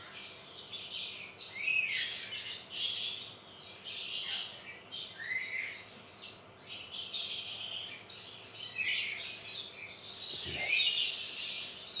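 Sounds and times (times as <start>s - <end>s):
birds chirping and squawking: 2.1s - 12.0s.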